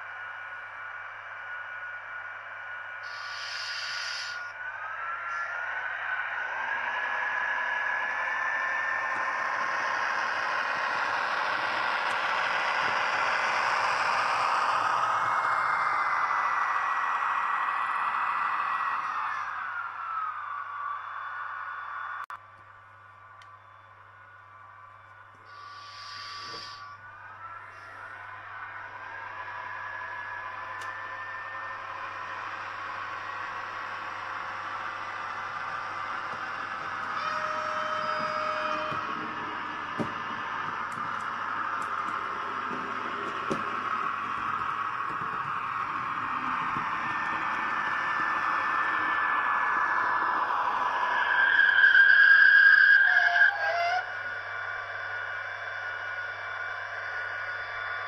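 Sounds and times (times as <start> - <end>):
model train whirring: 0.0 - 22.2, 25.0 - 58.0.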